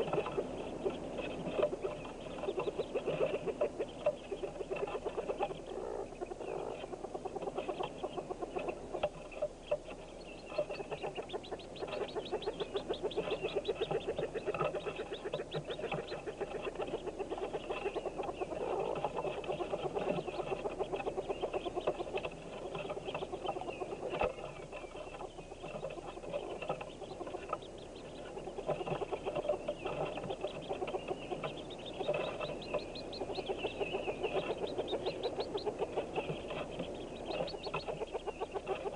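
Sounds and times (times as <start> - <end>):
ducklings peeping and clucking: 0.0 - 38.9.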